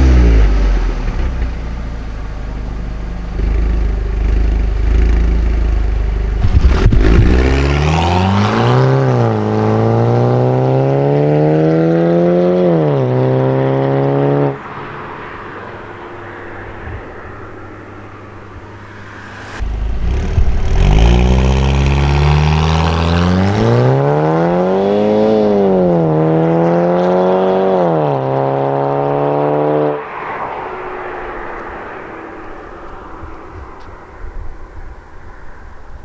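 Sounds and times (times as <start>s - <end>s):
car engine revving: 2.7s - 35.2s.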